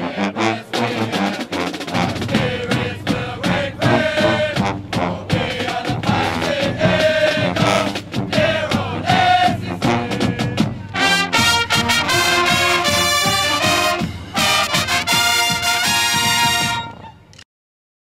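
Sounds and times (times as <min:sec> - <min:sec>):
marching band brass playing: 0:00.0 - 0:17.3.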